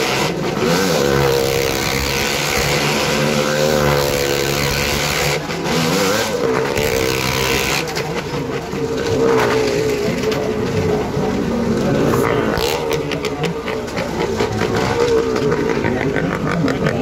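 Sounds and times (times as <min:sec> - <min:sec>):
car and motorcycle engines running: 0:00.0 - 0:17.0.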